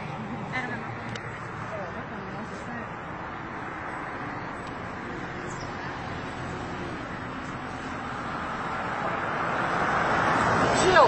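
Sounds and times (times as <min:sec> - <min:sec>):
outdoor background hiss and rumble: 0:00.0 - 0:11.0.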